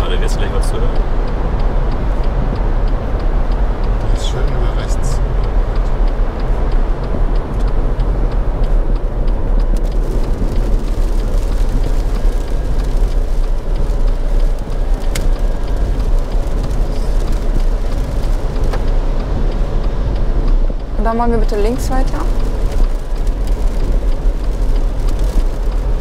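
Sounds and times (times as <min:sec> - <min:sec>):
low car cabin rumble: 0:00.0 - 0:26.0
tyres on wet road: 0:00.0 - 0:26.0.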